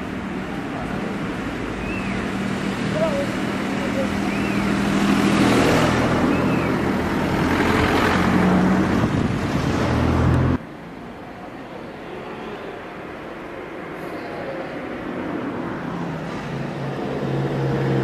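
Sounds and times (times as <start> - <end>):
outdoor street noise: 0.0 - 18.0.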